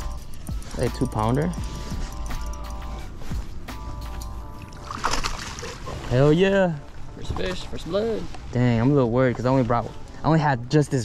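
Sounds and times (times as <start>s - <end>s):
music of sustained tones: 0.0s - 11.0s.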